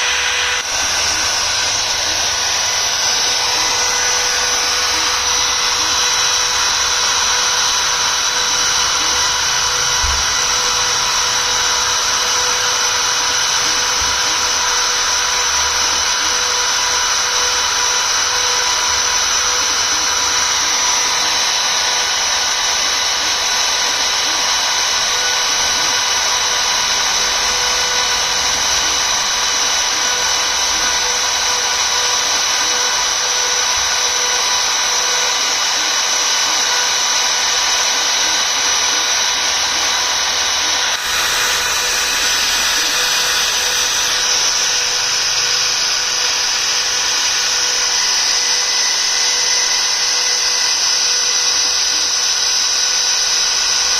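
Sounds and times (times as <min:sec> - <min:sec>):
cutting hiss: 0:00.0 - 0:53.9
engraving spindle whine: 0:00.0 - 0:53.9.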